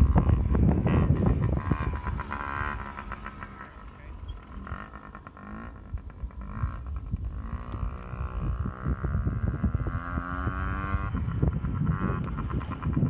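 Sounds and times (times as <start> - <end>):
dirt bike engine revving: 0.0 - 13.0
wind buffeting microphone: 0.0 - 13.0.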